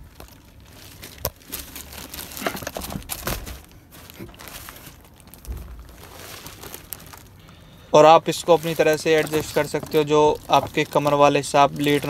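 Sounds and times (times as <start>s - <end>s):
plastic cover crinkling: 0.0s - 12.0s.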